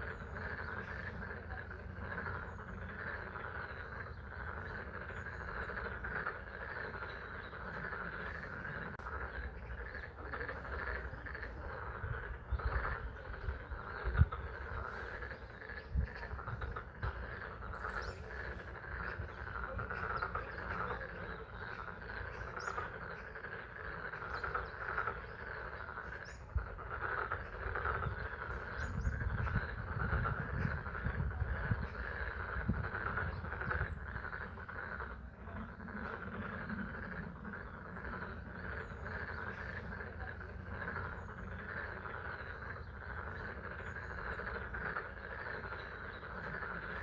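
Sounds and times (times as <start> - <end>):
frogs croaking chorus: 0.0 - 47.0.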